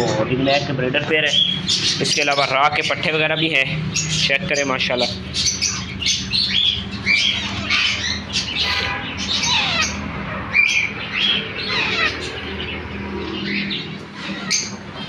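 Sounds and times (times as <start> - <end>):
cage birds chirping: 0.0 - 15.0
parakeets squawking: 0.0 - 15.0.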